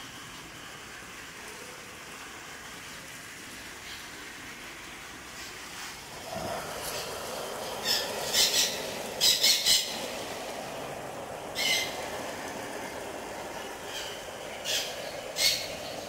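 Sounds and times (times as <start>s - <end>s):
water spray hissing on leaves: 0.0s - 16.0s.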